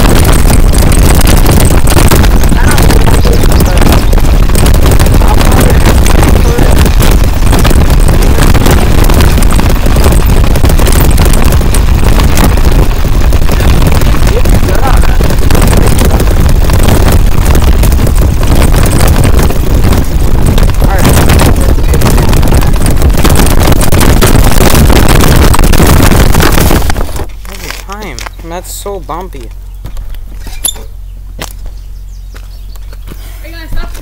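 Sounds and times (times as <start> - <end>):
bicycle trailer rattling: 0.0 - 29.2.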